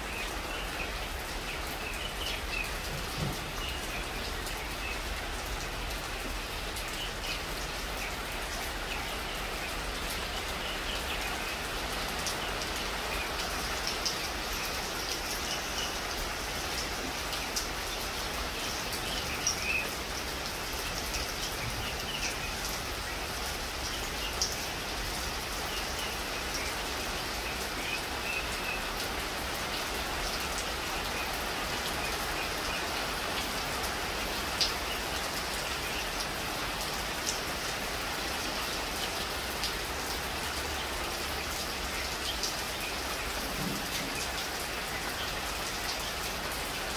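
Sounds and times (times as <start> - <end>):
rain falling on leaves: 0.0 - 46.9.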